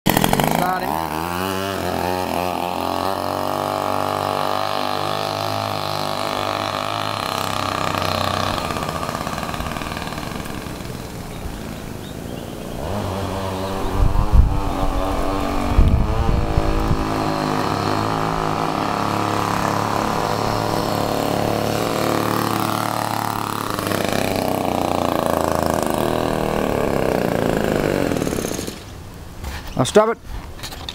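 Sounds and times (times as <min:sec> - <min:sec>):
chainsaw engine on bicycle: 0:00.1 - 0:29.0.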